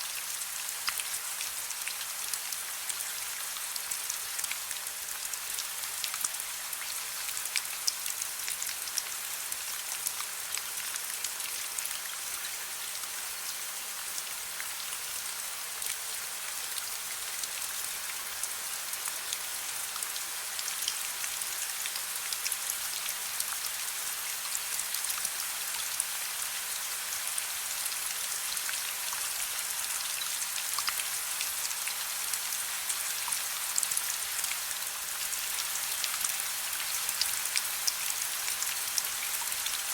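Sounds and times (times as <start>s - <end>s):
raindrops ticking on a surface: 0.1s - 39.9s.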